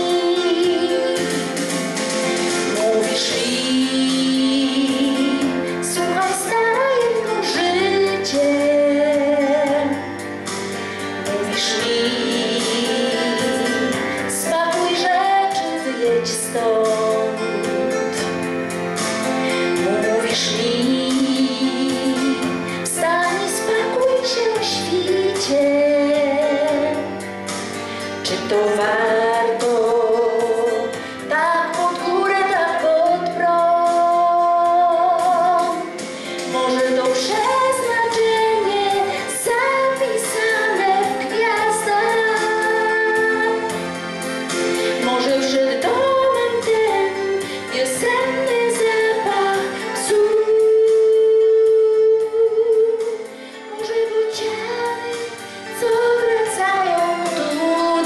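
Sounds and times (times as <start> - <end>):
instrumental accompaniment: 0.0 - 58.0
woman singing into microphone: 0.0 - 58.0.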